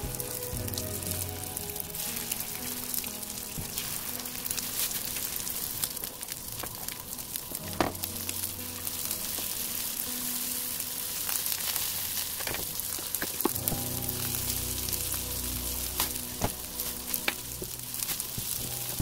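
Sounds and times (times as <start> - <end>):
batter frying in oil: 0.0 - 19.0
soft background music: 0.0 - 19.0.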